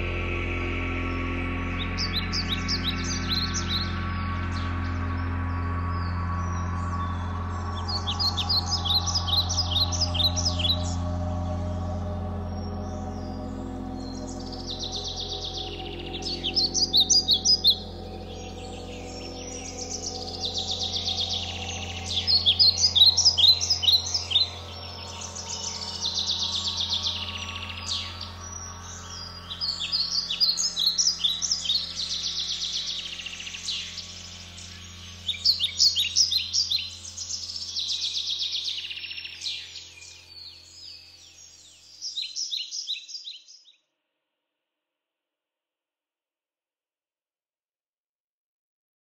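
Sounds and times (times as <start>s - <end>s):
low synthesizer drone: 0.0s - 42.5s
songbirds chirping trills: 0.0s - 43.8s.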